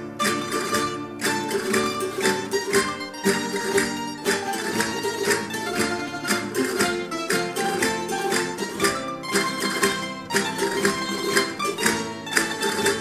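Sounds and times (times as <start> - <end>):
folk music on strummed strings: 0.0 - 13.0.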